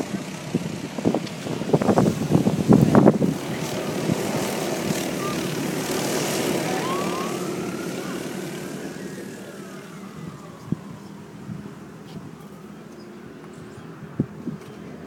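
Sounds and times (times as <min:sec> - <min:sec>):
go-kart engines buzzing: 0:00.0 - 0:15.0.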